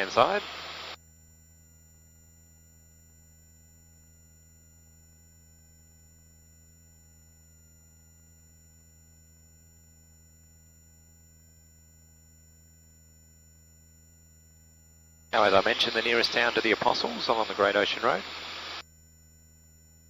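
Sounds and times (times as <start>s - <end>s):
high-pitched whine tones: 0.0s - 20.0s.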